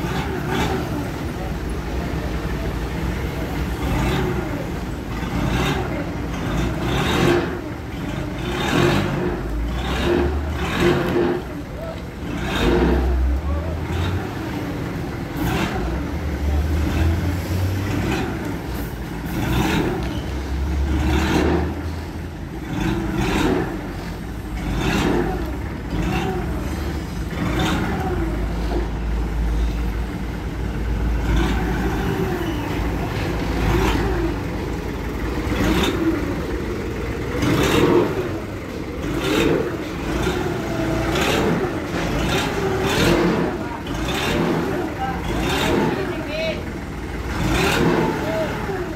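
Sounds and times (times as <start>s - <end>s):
forklift engine revving: 0.0s - 48.9s.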